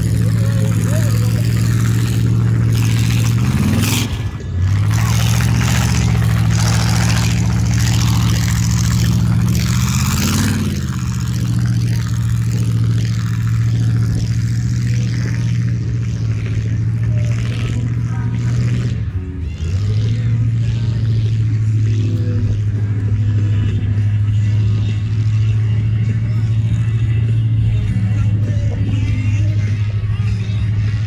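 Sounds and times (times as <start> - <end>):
vehicle engine revving: 0.0 - 31.0.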